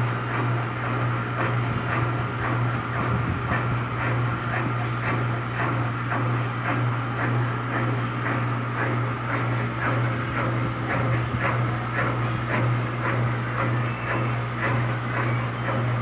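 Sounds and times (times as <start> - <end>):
motor hum: 0.0 - 16.0
washing machine drum spinning: 0.0 - 16.0.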